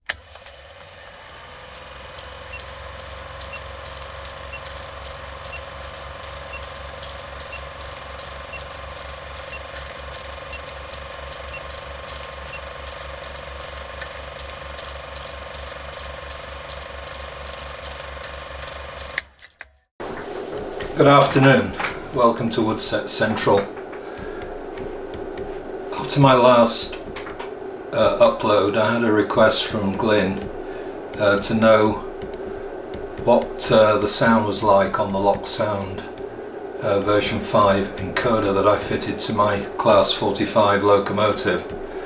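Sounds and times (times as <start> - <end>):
model locomotive whining: 0.0 - 19.3, 20.0 - 42.0
rapid even clicking: 1.7 - 19.4, 20.0 - 42.0.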